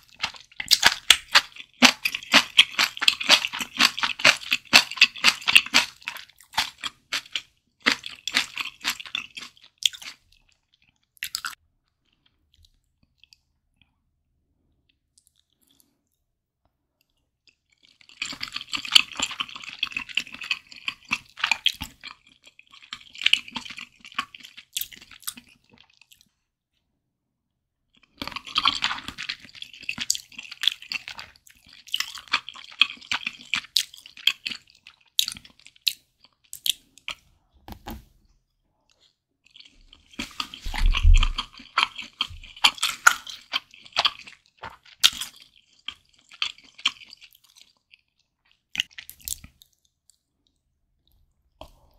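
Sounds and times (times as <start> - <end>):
wet crackly chewing: 0.0 - 13.9, 17.0 - 26.4, 27.9 - 37.3, 38.8 - 51.9.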